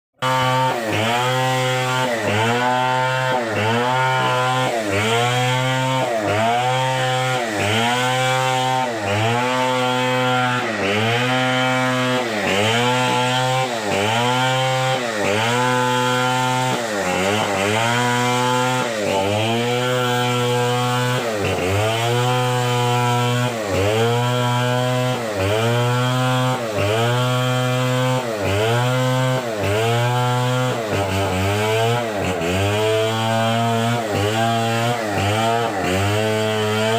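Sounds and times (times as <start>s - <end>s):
chainsaw cutting wood: 0.2s - 36.9s.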